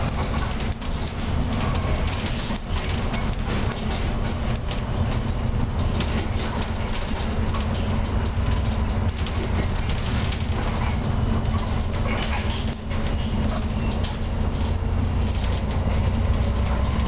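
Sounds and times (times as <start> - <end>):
diesel bus engine and road rumble: 0.0 - 17.0
small clicks and rattles: 0.0 - 17.0.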